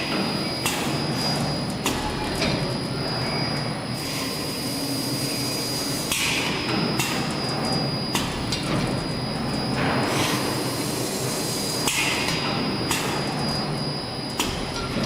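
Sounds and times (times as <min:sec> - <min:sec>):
machine humming and whining: 0:00.0 - 0:15.0.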